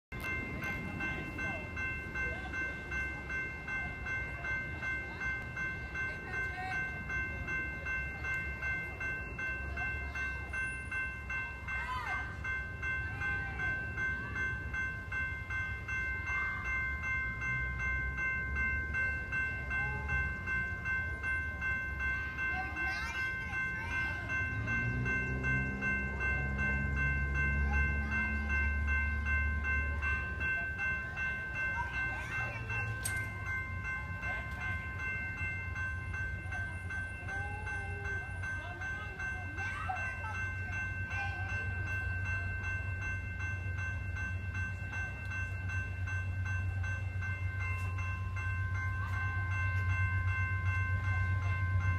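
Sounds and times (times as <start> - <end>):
railroad crossing bell ringing: 0.1 - 51.9.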